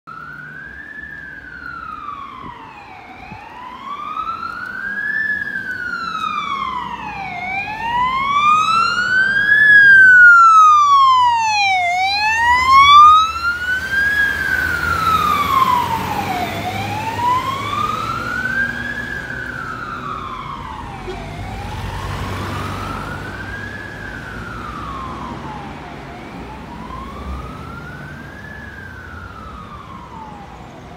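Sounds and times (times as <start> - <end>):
fire engine siren wailing: 0.1 - 30.9
truck engine rumbling: 0.2 - 30.9.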